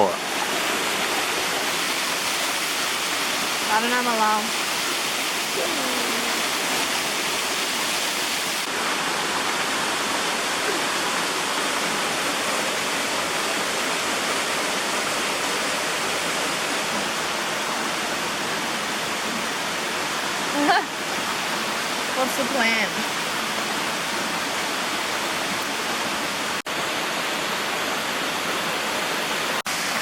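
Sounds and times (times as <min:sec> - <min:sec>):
waterfall pouring into pool: 0:00.0 - 0:30.0.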